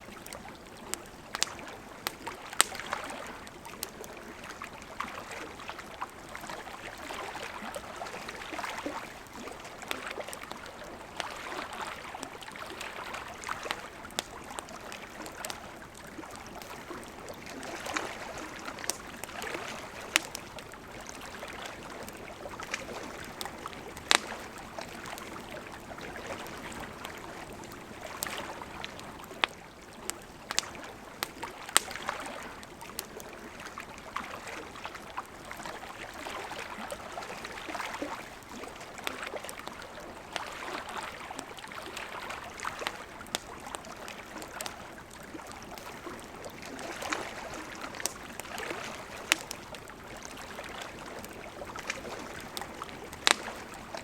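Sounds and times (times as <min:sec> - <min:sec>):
campfire crackling and popping: 0:00.0 - 0:54.0
lake waves lapping at shore: 0:00.0 - 0:54.0.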